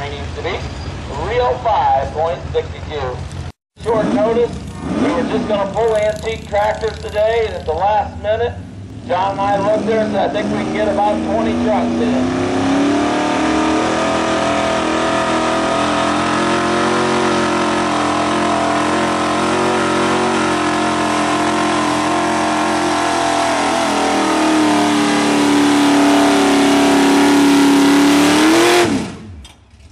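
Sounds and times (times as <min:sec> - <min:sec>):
truck engine at high revs: 0:02.2 - 0:29.9.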